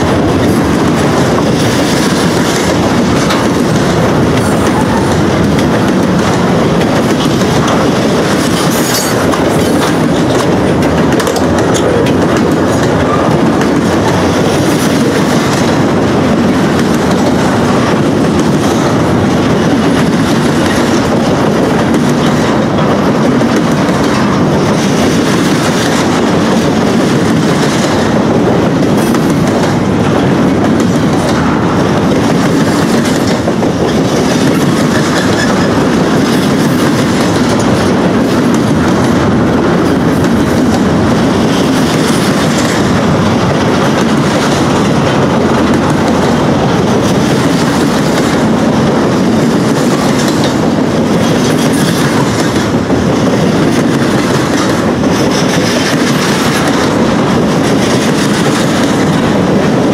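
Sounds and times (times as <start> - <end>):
clickety-clack wheel clatter: 0.0 - 59.9
freight train cars rumbling: 0.0 - 59.9.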